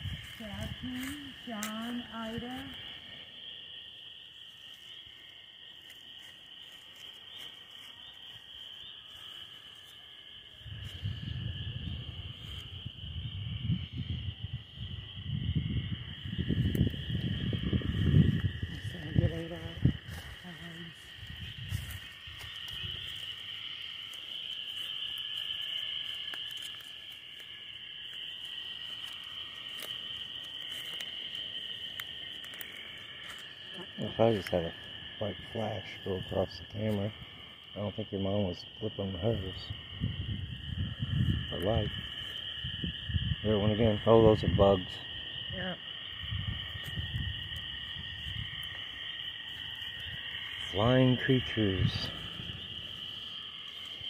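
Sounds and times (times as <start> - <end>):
night insects chorus: 0.0 - 54.0.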